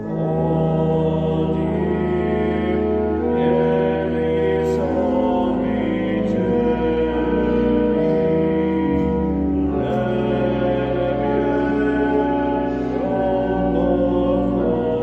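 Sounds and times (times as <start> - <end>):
pipe organ playing a hymn: 0.0 - 15.0.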